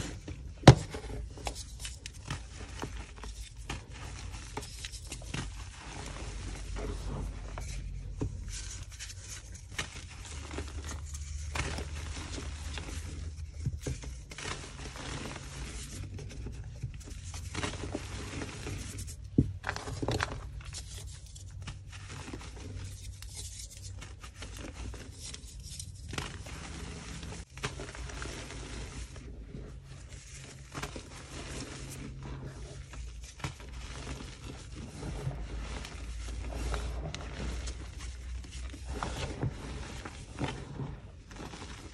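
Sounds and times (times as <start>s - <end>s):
chalk blocks crunching and crumbling: 0.0s - 41.9s.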